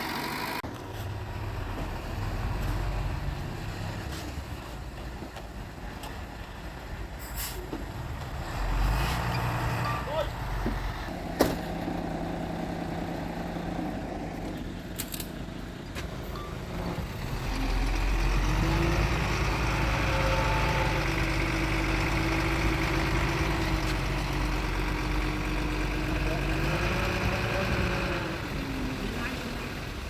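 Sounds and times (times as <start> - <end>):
heavy diesel machinery rumbling: 0.0 - 30.0.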